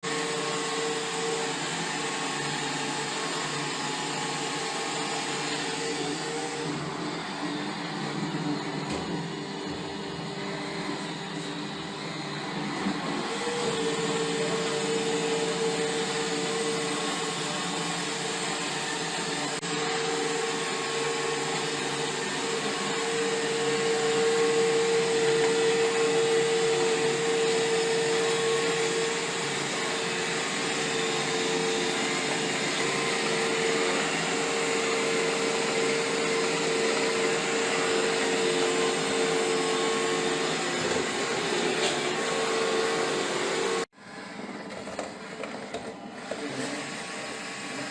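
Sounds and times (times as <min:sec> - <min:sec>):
robot vacuum running: 0:00.1 - 0:47.9.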